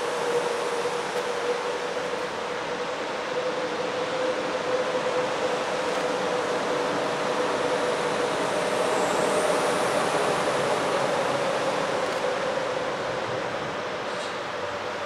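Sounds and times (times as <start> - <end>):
locomotive engines droning: 0.0 - 15.0
rail noise: 0.0 - 15.0.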